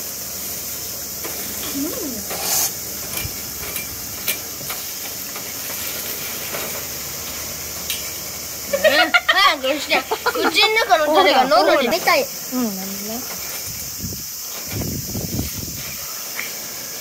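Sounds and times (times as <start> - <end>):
steady high-pitched hiss: 0.0 - 17.0.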